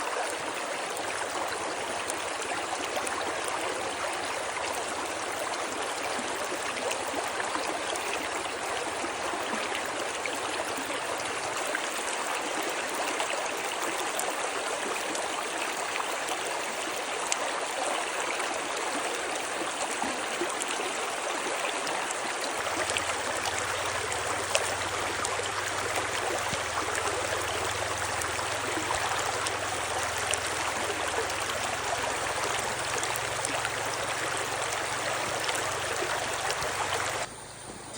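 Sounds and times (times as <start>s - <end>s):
stream water flowing: 0.0s - 37.9s.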